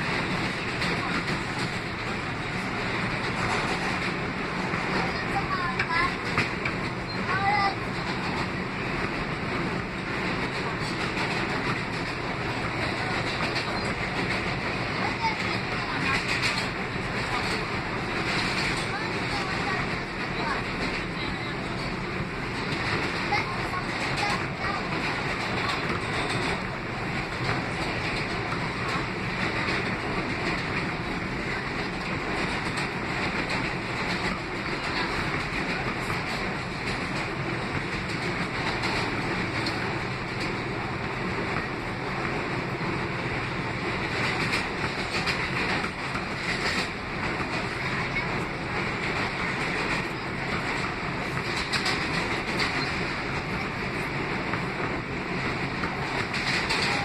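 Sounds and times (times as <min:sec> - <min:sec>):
subway wheels rumbling on rail: 0:00.0 - 0:57.0.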